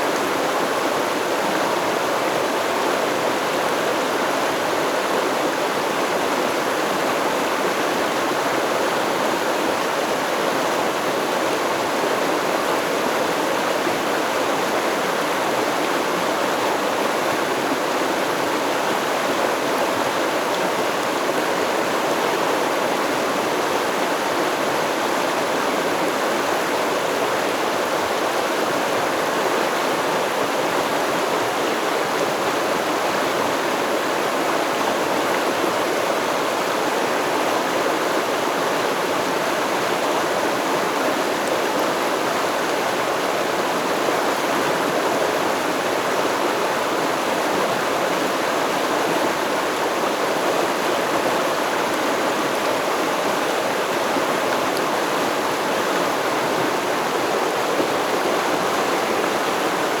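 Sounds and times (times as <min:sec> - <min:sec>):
stream flowing over rocks: 0:00.0 - 1:00.0.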